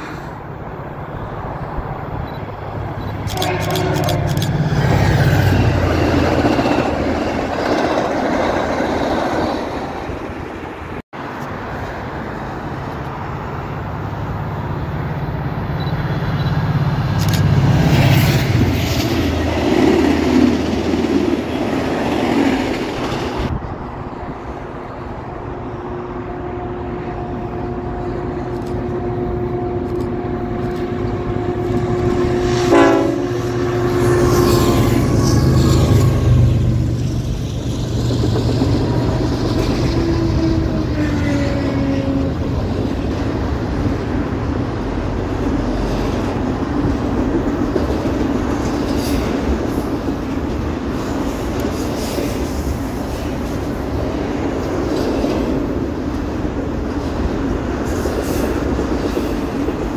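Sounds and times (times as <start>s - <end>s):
diesel locomotive engine: 0.0s - 59.9s
train wheels rumbling on rails: 0.0s - 59.9s.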